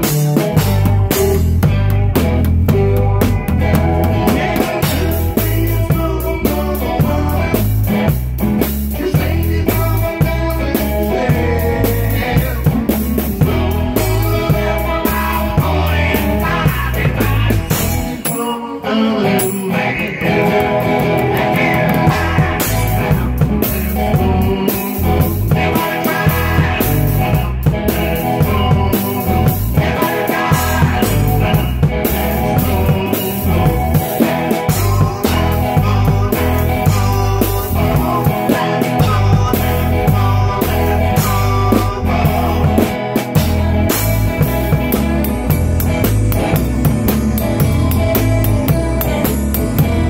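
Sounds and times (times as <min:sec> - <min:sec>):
pulsing bass line: 0:00.0 - 0:18.3, 0:20.2 - 0:50.0
acoustic and electric guitars: 0:00.0 - 0:50.0
drum kit: 0:00.0 - 0:50.0.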